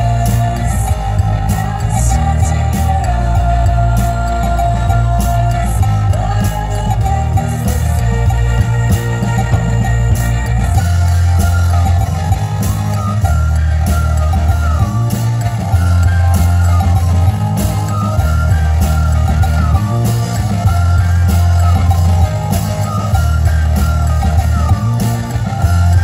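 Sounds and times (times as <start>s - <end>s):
synth-pop band playing live: 0.0s - 26.0s.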